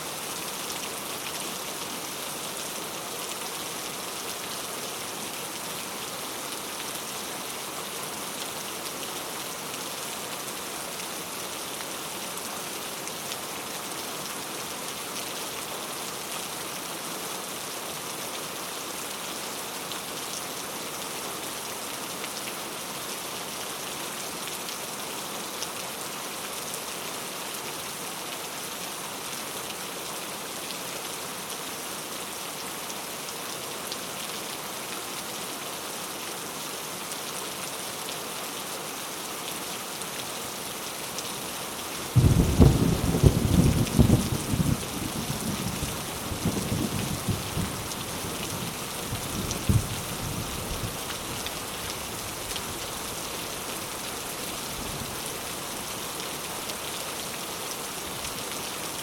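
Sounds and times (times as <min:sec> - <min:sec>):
rain falling steadily: 0:00.0 - 0:59.0.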